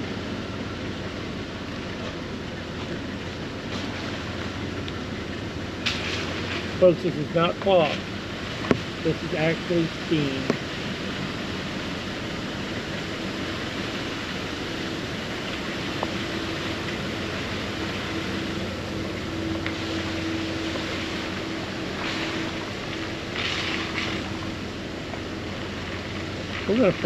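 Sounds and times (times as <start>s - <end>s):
low engine hum: 0.0s - 27.0s
tyre noise on wet road: 0.0s - 27.0s.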